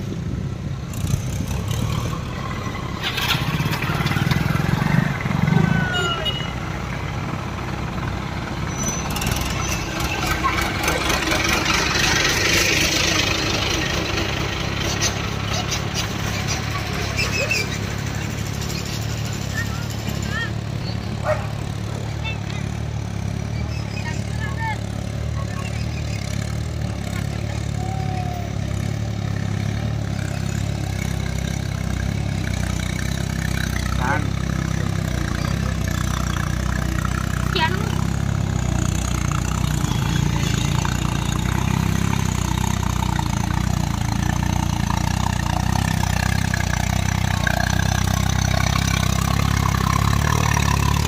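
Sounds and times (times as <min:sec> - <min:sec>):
diesel tractor engine running: 0:00.0 - 0:51.0.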